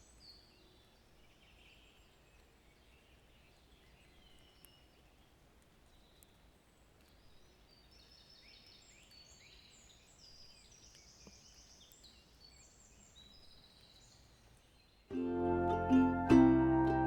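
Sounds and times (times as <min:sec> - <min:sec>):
faint birdsong chirps and trills: 0:00.0 - 0:15.2.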